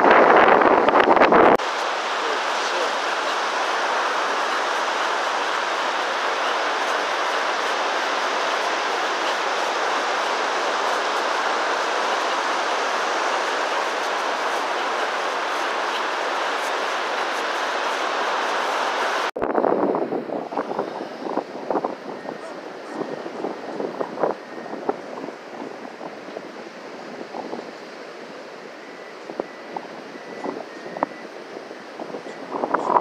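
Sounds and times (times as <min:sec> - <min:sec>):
surf on a beach: 0:00.0 - 0:33.0
wind: 0:00.0 - 0:33.0.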